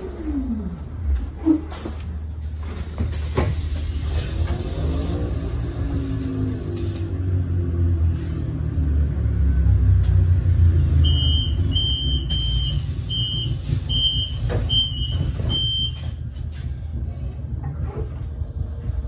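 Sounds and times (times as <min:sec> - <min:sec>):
bus interior rumble: 0:00.0 - 0:19.0.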